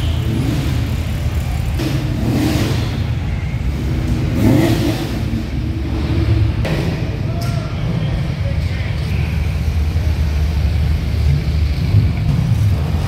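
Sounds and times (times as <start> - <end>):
car engines and exhausts rumbling: 0.0 - 13.0.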